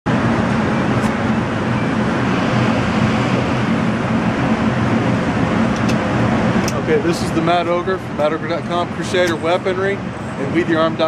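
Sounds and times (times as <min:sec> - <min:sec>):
ventilation rushing air and hum: 0:00.1 - 0:11.0.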